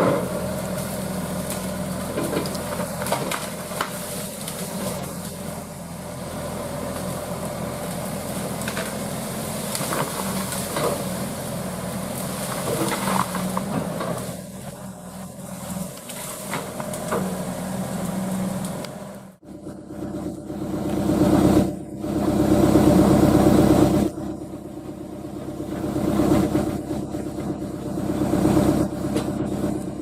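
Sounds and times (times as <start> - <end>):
excavator diesel engine running: 0.0 - 30.0
loud engine: 0.0 - 30.0.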